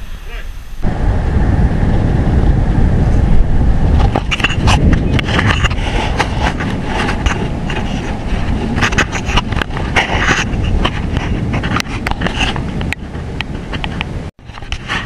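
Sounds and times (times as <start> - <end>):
wind noise on microphone: 0.0 - 15.0
bicycle rolling on pavement: 0.8 - 14.8
bike rattling over bumps: 0.8 - 15.0.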